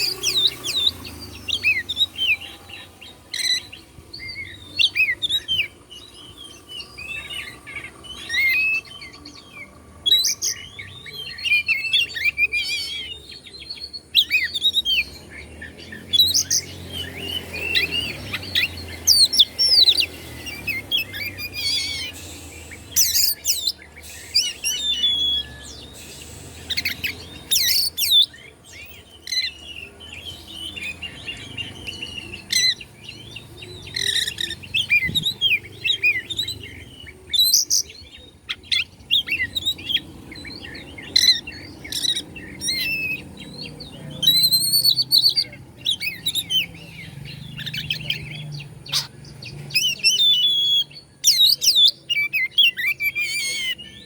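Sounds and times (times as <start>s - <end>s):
songbird whistling and chattering: 0.0s - 54.0s.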